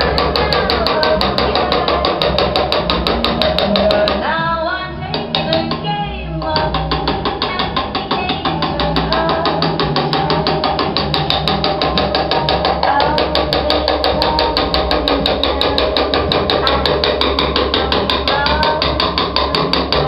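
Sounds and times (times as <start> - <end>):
hammer tapping metal graver: 0.0 - 4.3, 5.1 - 20.0
background music: 0.0 - 20.0.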